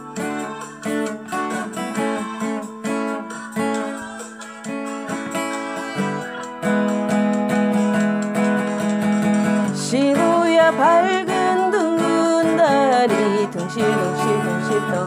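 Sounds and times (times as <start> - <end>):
guitar plucked notes and chords: 0.0 - 15.0.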